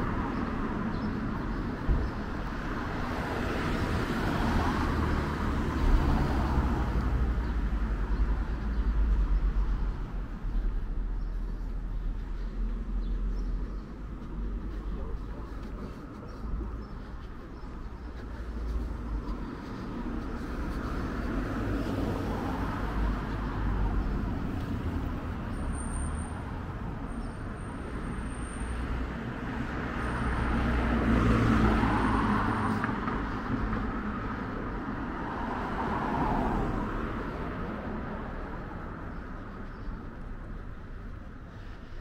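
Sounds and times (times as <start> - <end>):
cars passing: 0.0 - 42.0.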